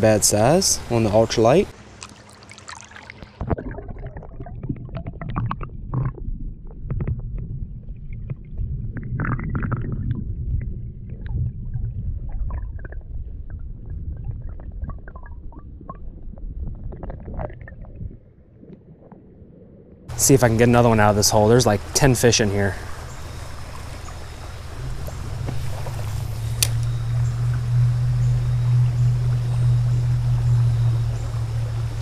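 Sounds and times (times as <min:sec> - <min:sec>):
muffled underwater stream rumble: 0:00.0 - 0:32.0.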